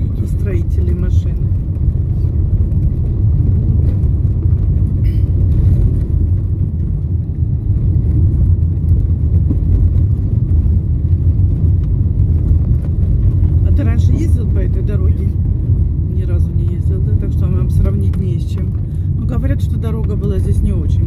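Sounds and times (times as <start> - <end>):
car driving on gravel: 0.0 - 21.0.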